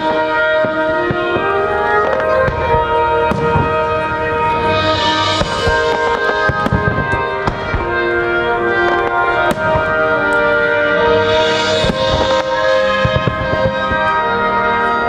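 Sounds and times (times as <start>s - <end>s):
fireworks bangs and pops: 0.0s - 15.0s
melodic soundtrack music: 0.0s - 15.0s.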